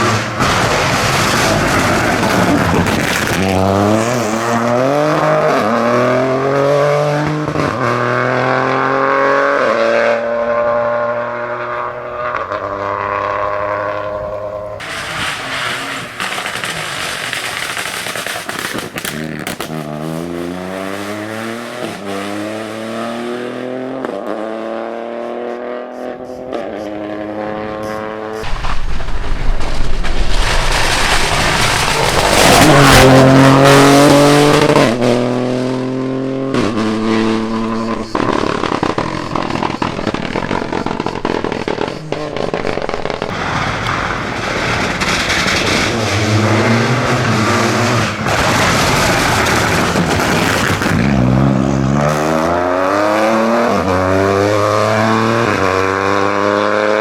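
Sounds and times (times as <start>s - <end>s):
rally car engine pulling through gears: 0.0s - 57.0s.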